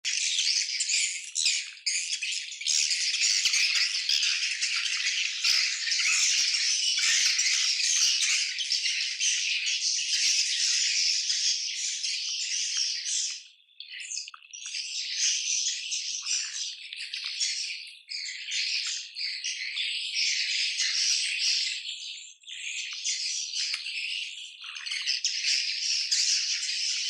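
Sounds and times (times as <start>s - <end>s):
birds twittering: 0.0s - 27.0s.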